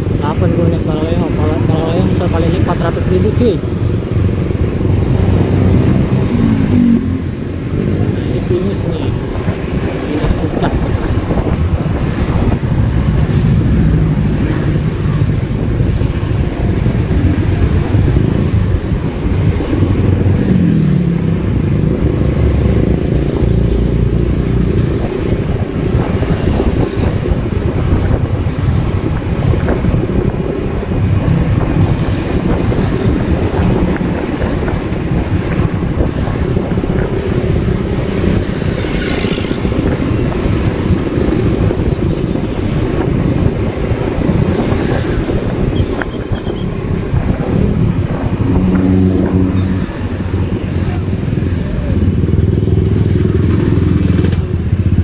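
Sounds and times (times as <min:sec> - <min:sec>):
passing vehicles: 0:00.0 - 0:55.0
wind rumble on microphone: 0:00.0 - 0:55.0
motorcycle engine running: 0:01.0 - 0:55.0.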